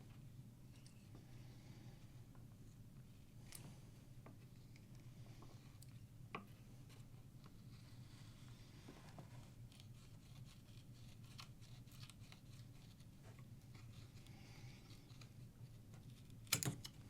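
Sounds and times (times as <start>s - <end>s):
faint light clicks and scratches: 2.3s - 17.0s.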